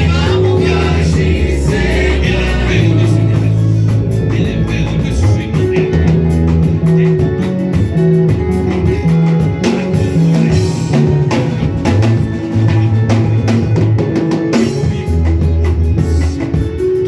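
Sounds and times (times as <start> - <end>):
drum kit steady beat: 0.0 - 17.0
worship band playing a hymn: 0.0 - 17.0.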